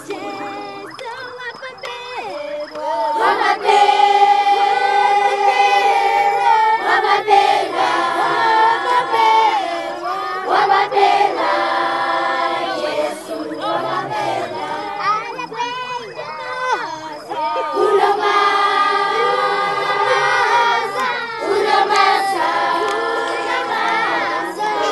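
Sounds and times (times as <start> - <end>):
choir singing in harmony: 0.0 - 24.9.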